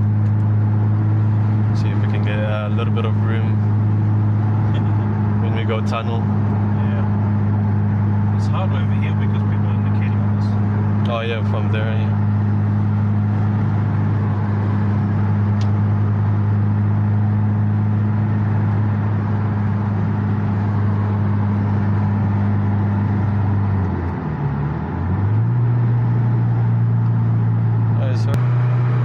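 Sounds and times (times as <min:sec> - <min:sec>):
car engine droning while driving: 0:00.0 - 0:29.0.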